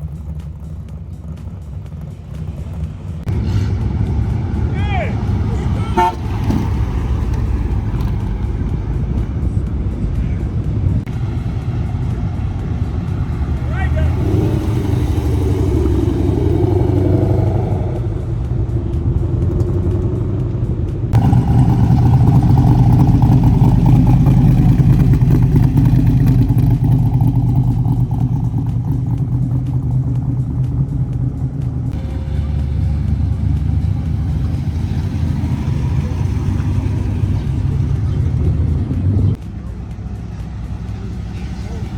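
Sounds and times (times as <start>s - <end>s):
car engines rumbling: 0.0s - 41.9s.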